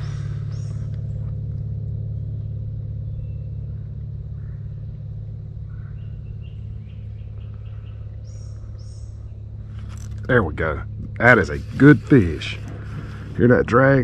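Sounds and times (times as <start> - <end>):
bird chirp: 0.0 - 14.0
low mechanical drone: 0.0 - 14.0.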